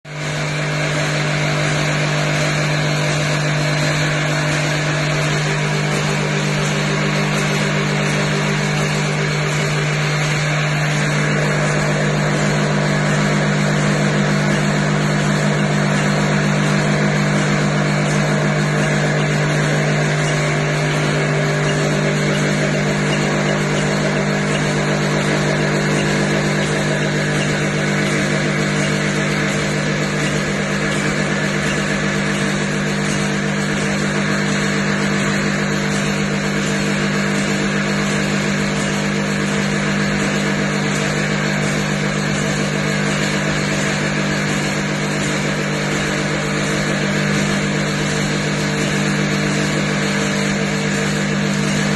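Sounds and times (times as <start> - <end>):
packaging machine running: 0.1 - 51.9.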